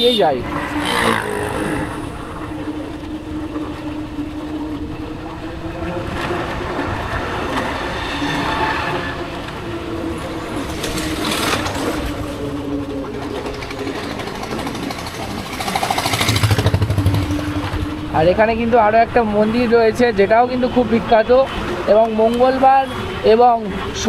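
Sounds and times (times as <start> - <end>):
steady hum: 0.0 - 21.9
passing traffic: 0.0 - 24.0
wind: 0.0 - 24.0.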